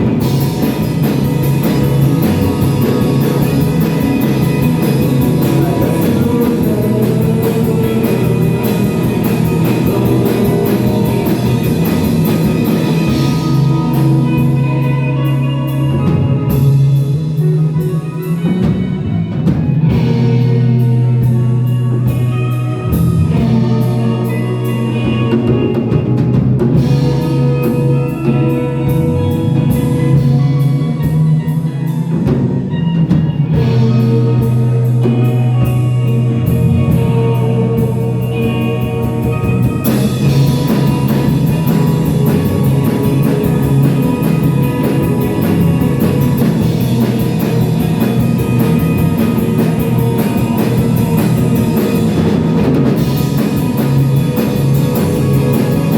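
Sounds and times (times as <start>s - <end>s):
live band music: 0.0s - 55.9s.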